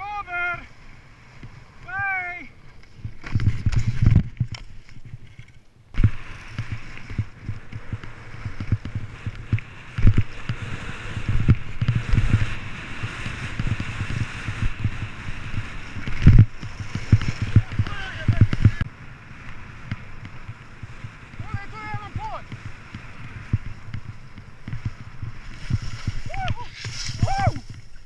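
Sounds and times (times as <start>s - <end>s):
skis scraping over snow: 0.0s - 28.0s.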